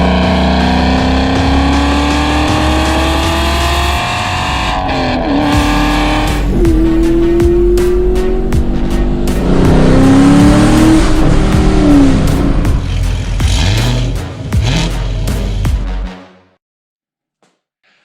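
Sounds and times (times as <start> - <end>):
car engine accelerating: 0.0 - 15.6
music with heavy beat: 0.0 - 16.2.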